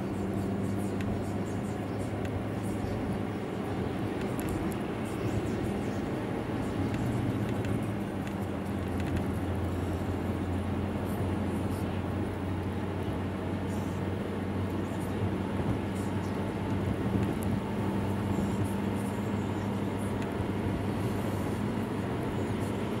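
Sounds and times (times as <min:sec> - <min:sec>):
car engine drone: 0:00.0 - 0:23.0
tyre and road noise: 0:00.0 - 0:23.0.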